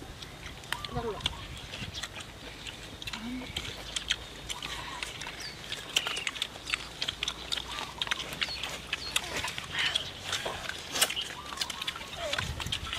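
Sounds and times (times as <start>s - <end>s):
people crunching and chewing: 0.0s - 12.9s.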